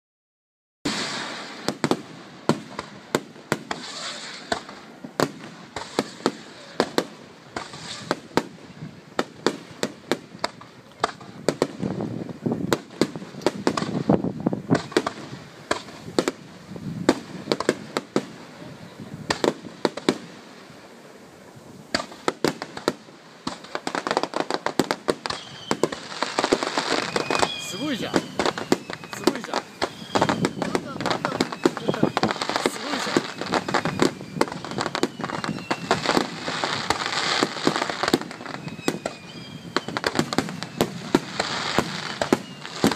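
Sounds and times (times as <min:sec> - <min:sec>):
fireworks bangs: 0:00.9 - 0:42.9
fireworks crackling: 0:00.9 - 0:42.9.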